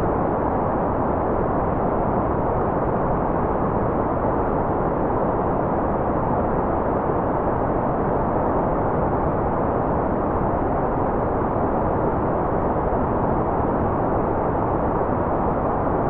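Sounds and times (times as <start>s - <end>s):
muffled white noise hiss: 0.0s - 16.0s.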